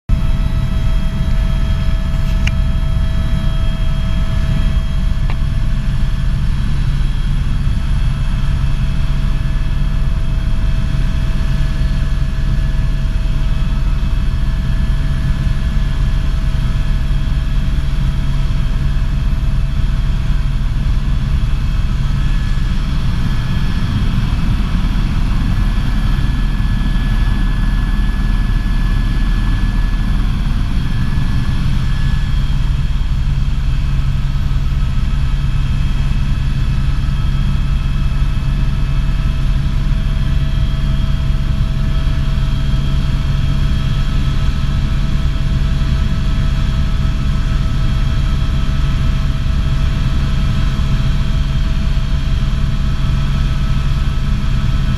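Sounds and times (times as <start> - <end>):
helicopter engine and rotor: 0.1 - 54.9.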